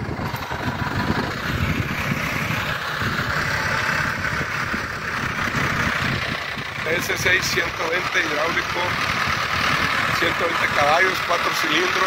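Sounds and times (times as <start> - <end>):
diesel tractor engine rumbling: 0.0 - 12.0.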